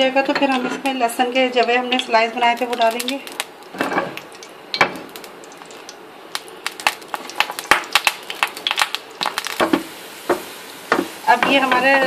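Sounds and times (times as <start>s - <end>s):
garlic frying in crackling oil: 0.0s - 12.0s.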